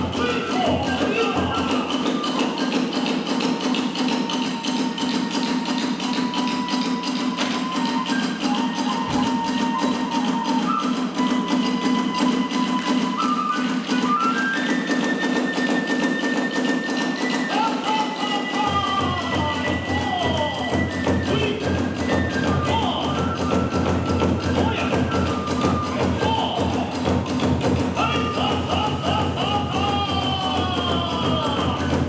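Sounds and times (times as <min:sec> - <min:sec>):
bamboo flute melody: 0:00.0 - 0:32.0
fast drumming: 0:00.0 - 0:32.0.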